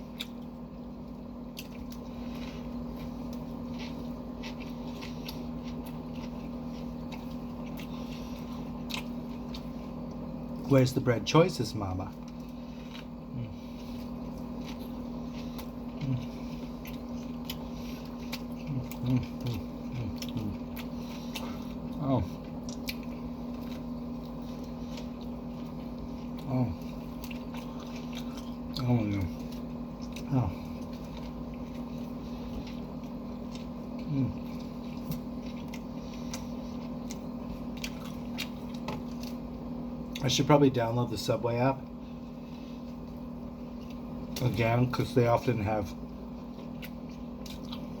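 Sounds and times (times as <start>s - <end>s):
person chewing sandwich: 0.0s - 10.8s, 12.0s - 40.6s, 41.8s - 48.0s
steady electrical hum: 0.0s - 48.0s.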